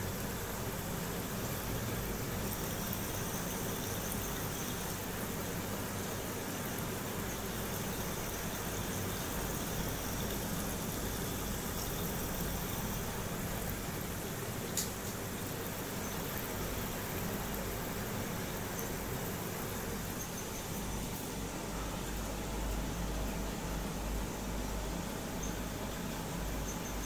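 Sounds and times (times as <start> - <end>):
aquarium air pump humming: 0.0 - 27.0.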